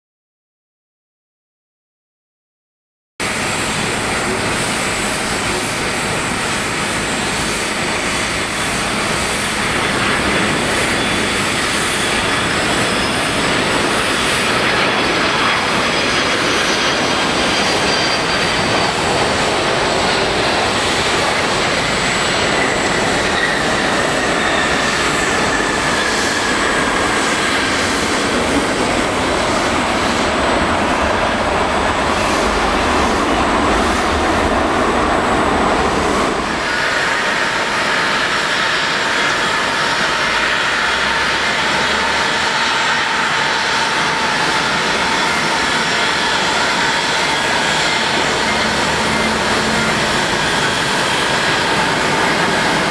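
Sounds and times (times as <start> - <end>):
high engine whine: 3.2 - 52.9
jet engines roaring: 3.2 - 52.9.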